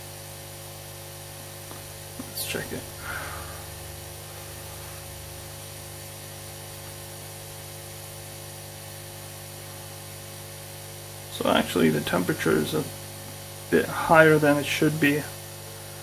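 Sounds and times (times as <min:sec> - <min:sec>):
faint hum: 0:00.0 - 0:16.0
hot air fan whirring and hissing: 0:00.0 - 0:16.0.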